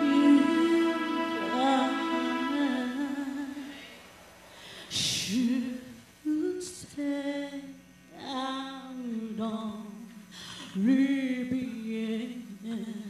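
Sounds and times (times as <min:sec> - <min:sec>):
woman singing into microphone: 0:00.0 - 0:03.9, 0:04.9 - 0:13.0.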